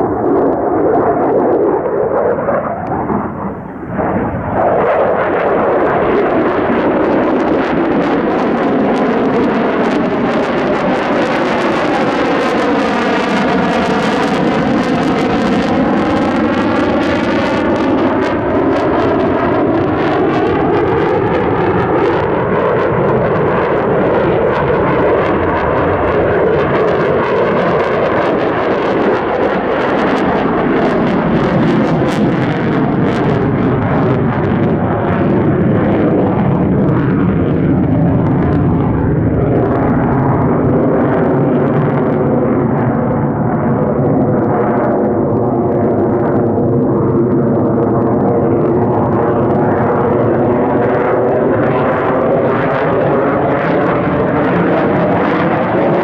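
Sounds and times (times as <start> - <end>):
jet engine roar with crackle: 0.0 - 56.0.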